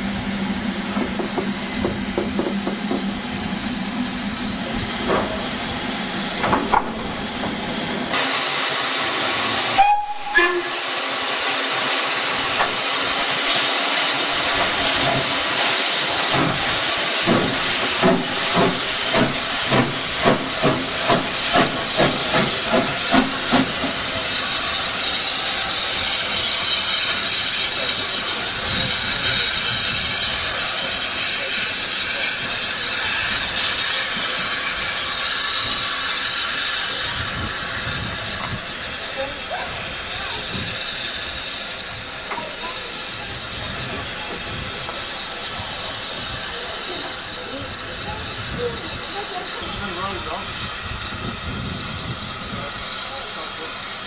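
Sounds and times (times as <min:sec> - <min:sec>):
slow locomotive exhaust beats: 0:00.0 - 0:54.0
steam hissing: 0:00.0 - 0:54.0.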